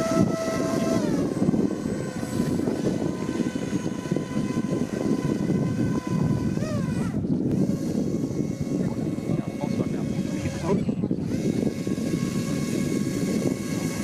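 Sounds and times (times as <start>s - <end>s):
electric motors and propellers whining: 0.0s - 14.0s.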